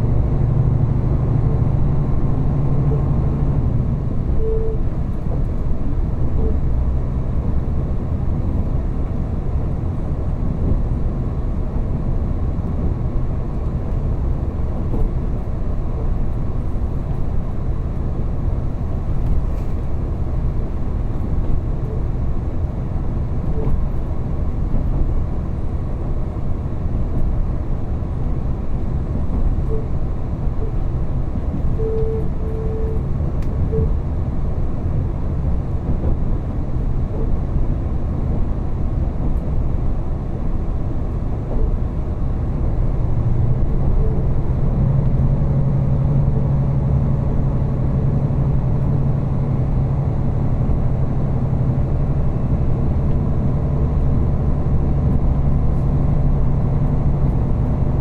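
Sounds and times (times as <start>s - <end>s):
railcar engine humming: 0.0s - 58.0s
wheels rumbling on track: 0.0s - 58.0s.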